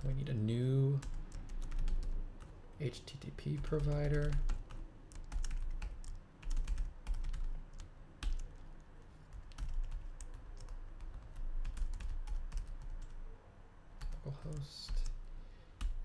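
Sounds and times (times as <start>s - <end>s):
computer keyboard typing: 0.9s - 2.6s, 3.4s - 13.2s, 14.0s - 15.2s, 15.8s - 16.0s.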